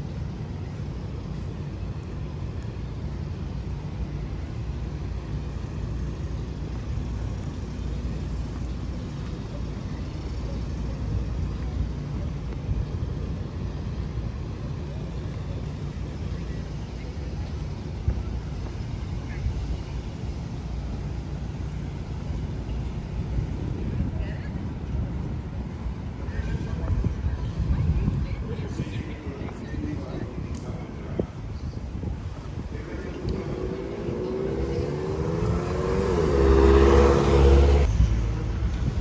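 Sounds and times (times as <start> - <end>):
hum of vehicle traffic: 0.0 - 39.0.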